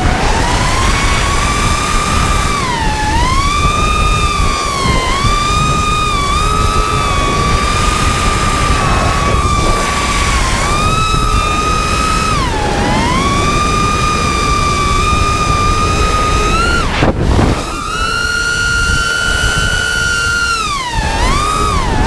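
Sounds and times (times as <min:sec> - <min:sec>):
drone motors whining: 0:00.0 - 0:22.0
wind buffeting microphone: 0:00.0 - 0:22.0.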